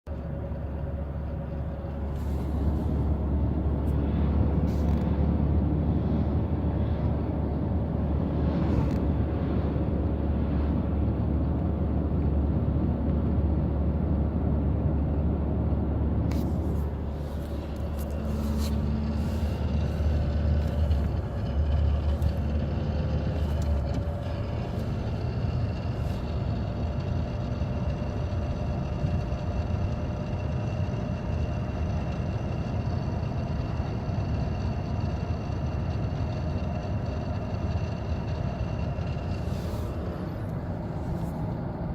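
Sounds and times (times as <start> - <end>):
car engine low rumble: 0.0 - 41.9.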